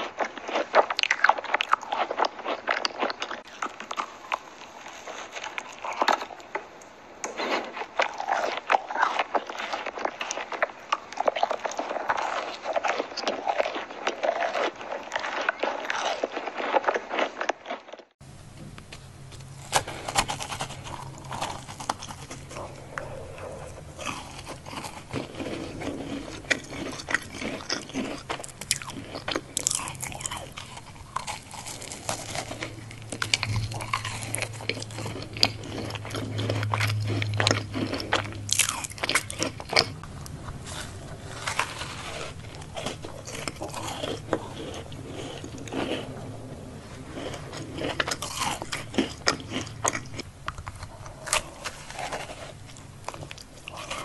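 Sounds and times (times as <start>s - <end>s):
crunchy biting and chewing: 0.0s - 18.1s, 18.8s - 54.0s.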